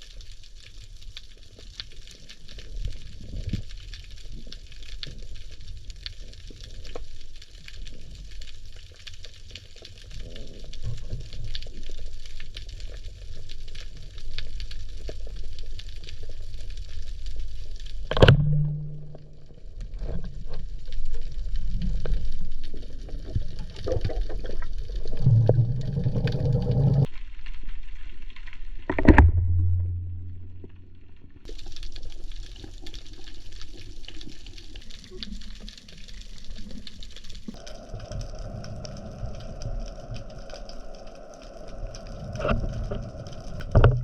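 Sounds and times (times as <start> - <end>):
underwater rush and bubbling: 0.0 - 27.4, 28.8 - 44.0.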